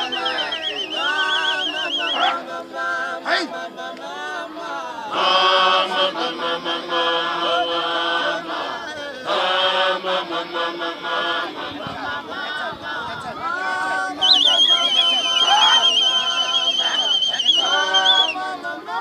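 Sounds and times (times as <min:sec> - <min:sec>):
a cappella group singing: 0:00.0 - 0:19.0.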